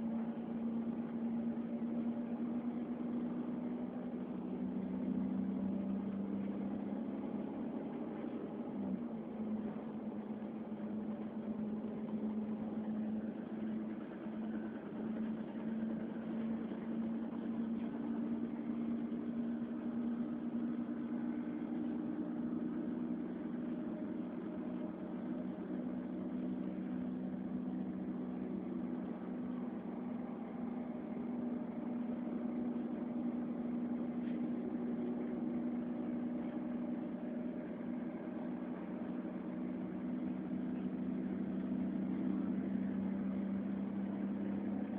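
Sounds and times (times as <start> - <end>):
train running hum: 0.0 - 44.9.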